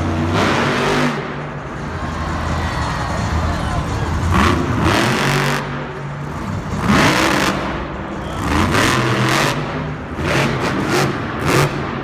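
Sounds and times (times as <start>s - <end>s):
monster truck engines revving: 0.0s - 12.0s.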